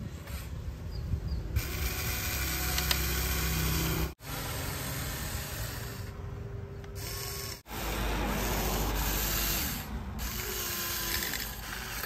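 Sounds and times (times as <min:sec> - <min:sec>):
toy excavator motor whirring: 0:01.6 - 0:12.0.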